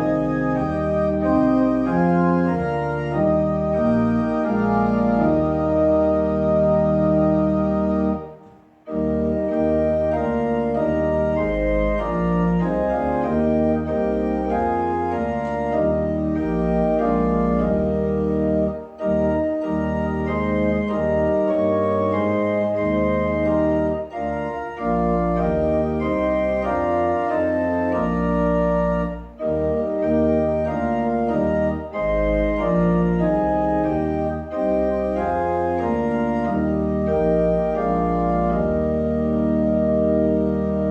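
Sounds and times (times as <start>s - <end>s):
church organ chords: 0.0s - 40.9s.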